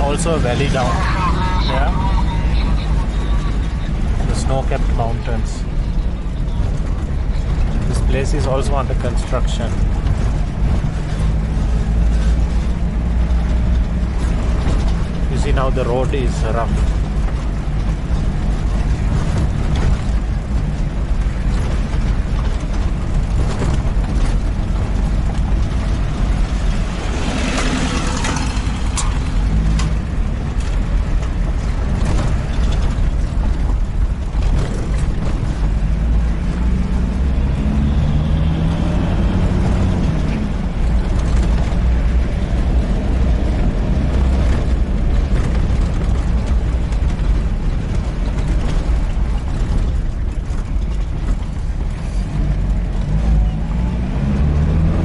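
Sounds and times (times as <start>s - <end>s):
engine low rumble: 0.0s - 55.0s
vehicle body rattling and knocking: 2.7s - 55.0s.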